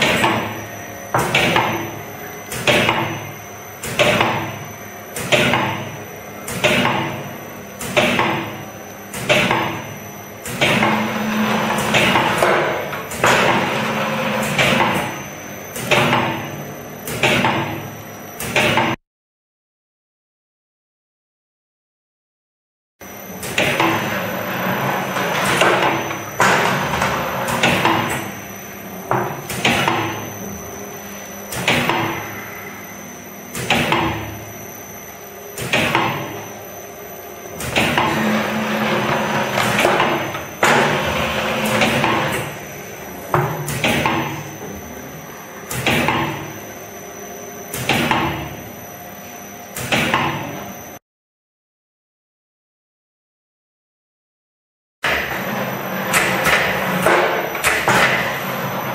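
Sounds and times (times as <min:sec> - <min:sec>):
steady machine hum: 0:00.0 - 0:19.0, 0:23.0 - 0:51.0, 0:55.0 - 0:58.9.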